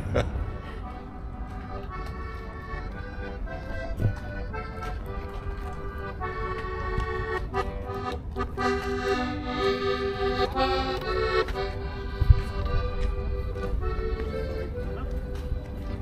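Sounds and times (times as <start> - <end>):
accordion playing a melody: 0.0 - 16.0.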